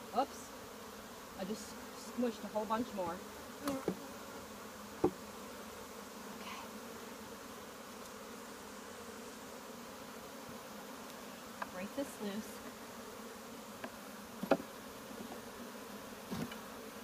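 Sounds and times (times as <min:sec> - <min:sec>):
bees humming: 0:00.0 - 0:17.0.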